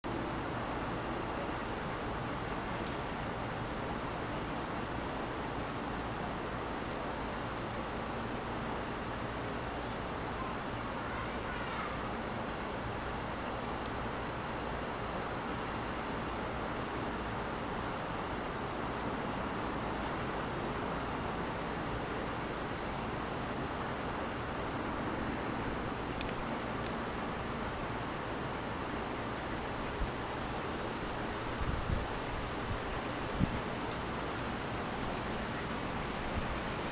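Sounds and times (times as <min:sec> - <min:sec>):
cicada buzzing: 0:00.0 - 0:36.0.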